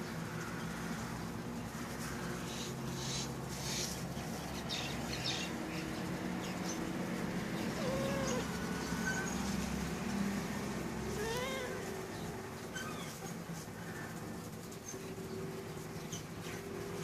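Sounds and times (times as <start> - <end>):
small birds chirping: 0.4 - 10.1, 11.0 - 17.0.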